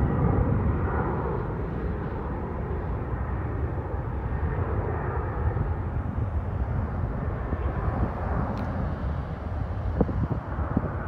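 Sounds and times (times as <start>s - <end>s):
distant jet engine rumbling: 0.0s - 11.0s.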